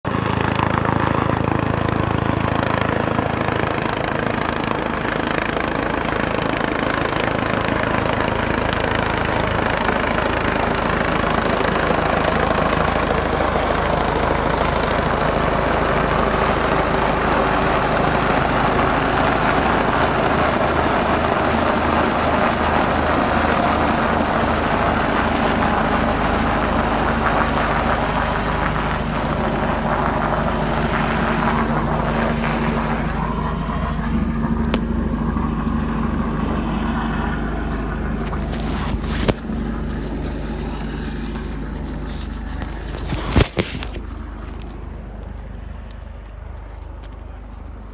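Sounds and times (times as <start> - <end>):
rotor blades beating: 0.1 - 46.5
helicopter engine whine: 0.1 - 47.9.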